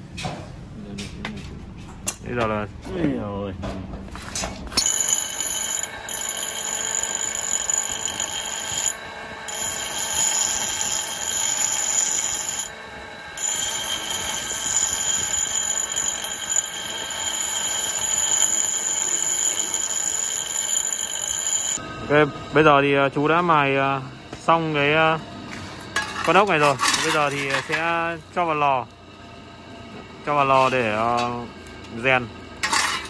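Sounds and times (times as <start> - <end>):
bench grinder grinding metal: 4.7 - 33.0.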